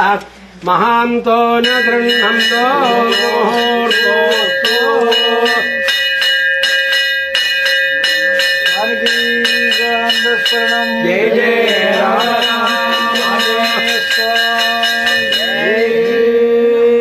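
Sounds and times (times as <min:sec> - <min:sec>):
voices chanting: 0:00.0 - 0:06.3, 0:07.4 - 0:17.0
hand bell rung rapidly: 0:01.6 - 0:16.3.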